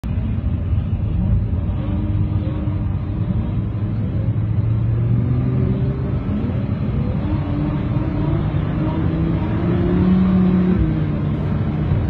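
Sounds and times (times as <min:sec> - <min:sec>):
sports car engine revving: 0:01.2 - 0:12.0.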